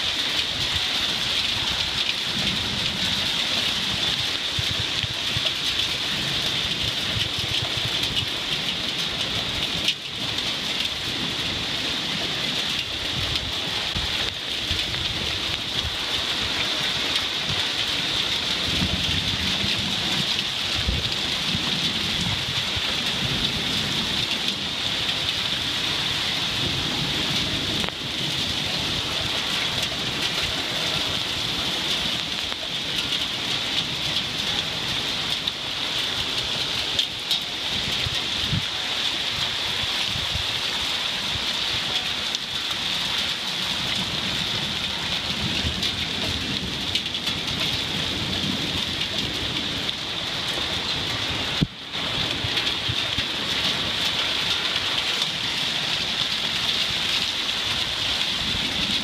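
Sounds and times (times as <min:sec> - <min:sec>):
heavy rain pouring: 0:00.0 - 0:59.0
low thunder rumbling: 0:00.7 - 0:40.6, 0:41.3 - 0:59.0.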